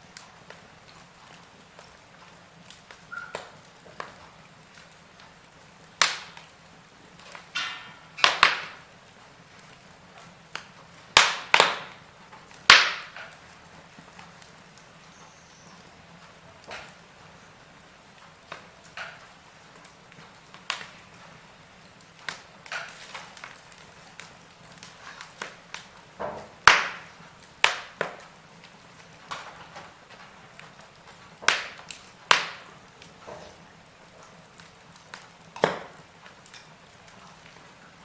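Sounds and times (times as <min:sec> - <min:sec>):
faint steady hiss: 0:00.0 - 0:38.0
fire pops: 0:00.0 - 0:38.0
wood fire crackling: 0:00.0 - 0:38.0.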